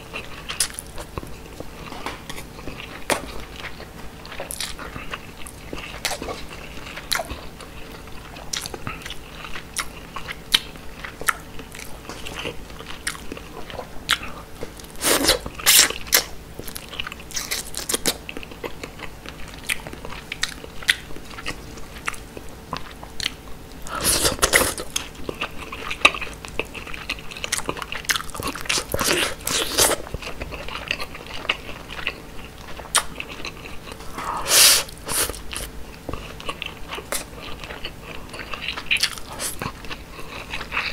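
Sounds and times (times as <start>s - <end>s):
wet chewing and biting: 0.0s - 40.9s.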